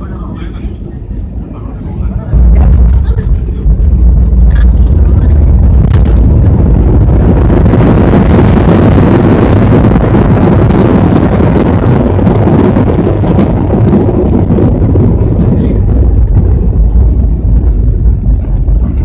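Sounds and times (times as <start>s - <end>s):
airliner engine roar in cabin: 0.0s - 19.0s
rushing air: 0.0s - 19.0s.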